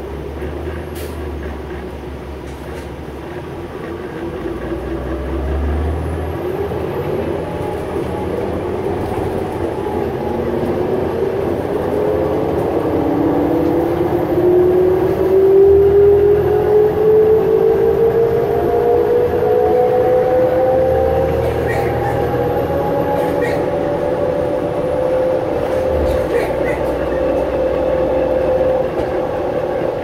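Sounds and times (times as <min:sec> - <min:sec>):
bus axle whine: 0:00.0 - 0:30.0
bus engine and road noise: 0:00.0 - 0:30.0.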